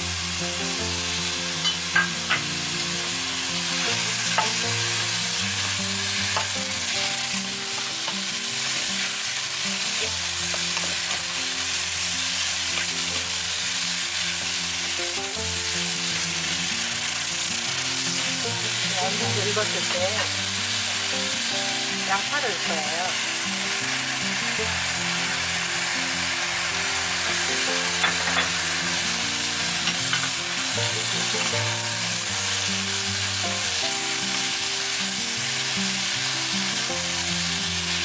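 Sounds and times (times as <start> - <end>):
eggplant sizzling in hot oil: 0.0 - 38.0.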